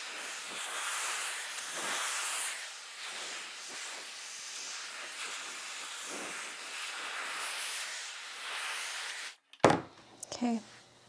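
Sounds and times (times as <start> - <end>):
hair dryer blowing: 0.0 - 9.4.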